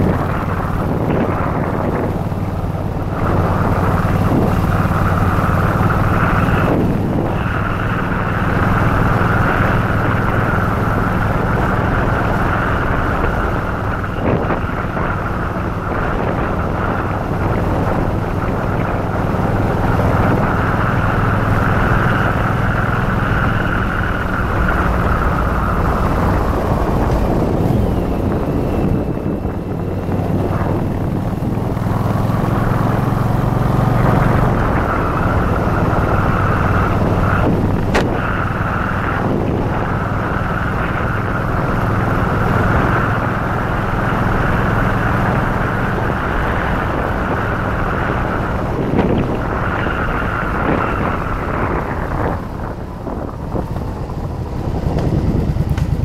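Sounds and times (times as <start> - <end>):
motorcycle engine running: 0.0 - 56.0
wind over microphone: 0.0 - 56.0.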